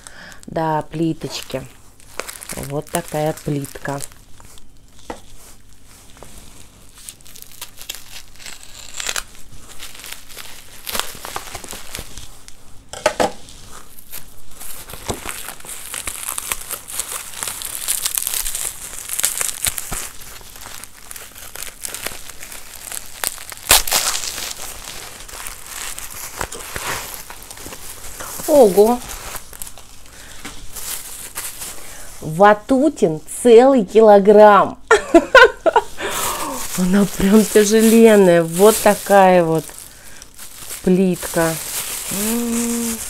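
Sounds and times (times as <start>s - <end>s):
plastic bag crinkling: 0.0s - 12.7s, 13.4s - 32.7s, 34.4s - 43.0s.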